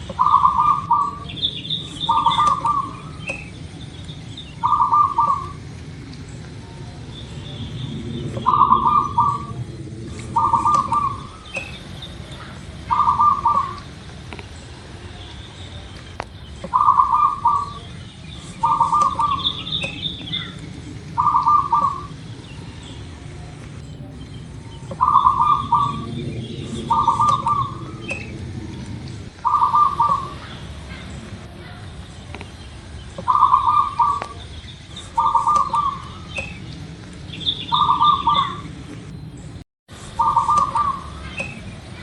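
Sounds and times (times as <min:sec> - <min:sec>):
dove cooing trills: 0:00.0 - 0:14.0, 0:16.5 - 0:39.1, 0:40.0 - 0:42.0
low steady hum: 0:00.0 - 0:42.0
small birds chirping: 0:00.0 - 0:42.0.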